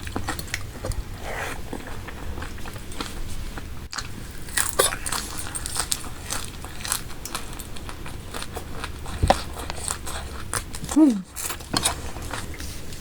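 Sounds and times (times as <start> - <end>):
person biting and chewing food: 0.0 - 12.7.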